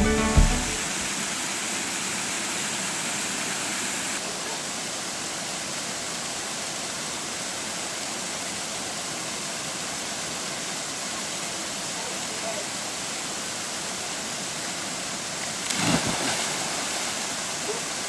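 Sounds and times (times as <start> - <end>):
waterfall splashing into pool: 0.0 - 18.0.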